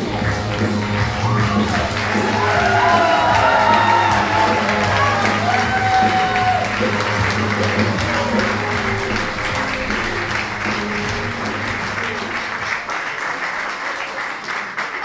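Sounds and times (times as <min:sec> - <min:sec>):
recorded music playing: 0:00.0 - 0:13.3
audience applauding: 0:00.0 - 0:15.0.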